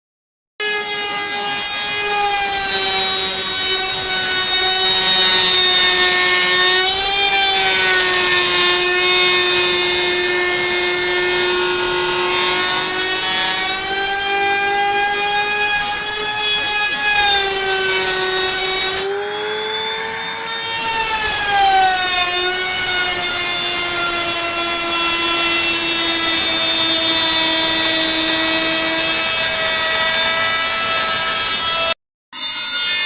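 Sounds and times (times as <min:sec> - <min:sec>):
electric saw cutting wood: 0:00.6 - 0:33.0.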